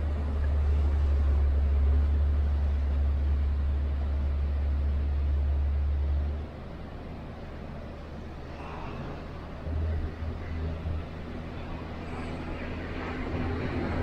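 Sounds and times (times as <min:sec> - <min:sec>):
ship low rumble: 0:00.0 - 0:14.0.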